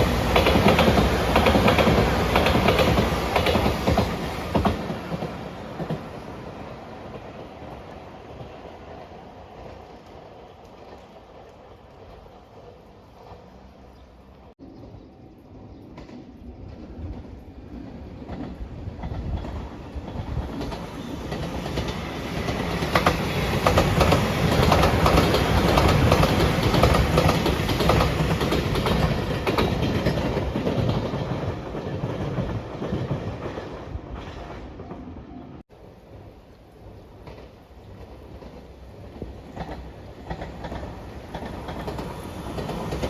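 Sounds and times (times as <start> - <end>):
wheels clacking over rail joints: 0.0 - 14.2, 15.9 - 35.1, 36.1 - 43.0
electric train passing: 0.0 - 43.0.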